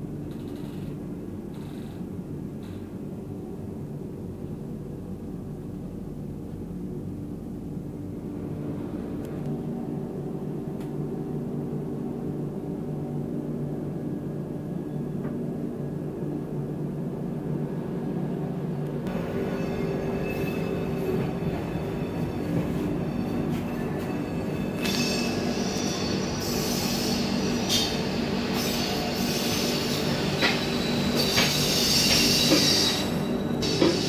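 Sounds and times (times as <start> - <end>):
train coach rumble and hum: 0.0 - 34.0.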